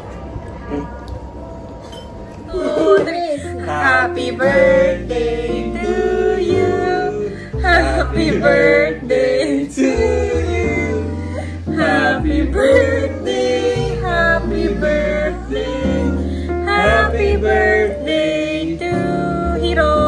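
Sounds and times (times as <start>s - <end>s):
person singing: 2.5s - 20.0s
instrumental backing with bass: 3.4s - 20.0s.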